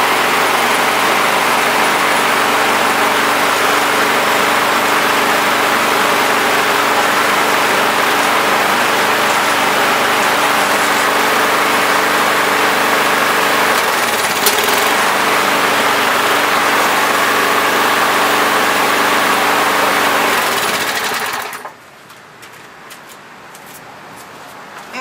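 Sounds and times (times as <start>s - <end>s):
lawn mower engine running: 0.0s - 21.8s.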